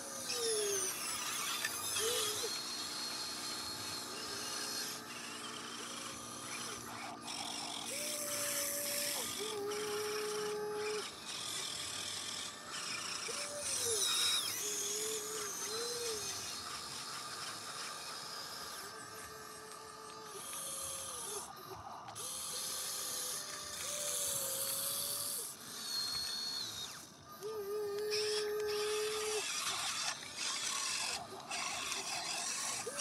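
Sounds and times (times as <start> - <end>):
toy excavator motors whining: 0.0 - 33.0.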